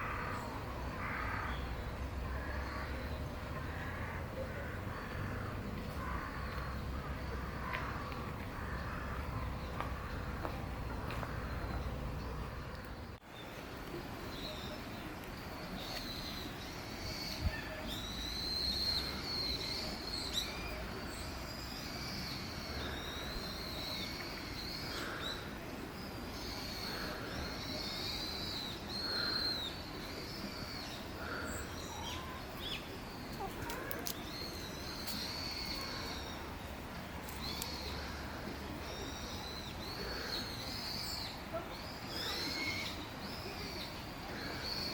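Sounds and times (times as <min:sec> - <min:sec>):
low background noise: 0:00.0 - 0:44.9.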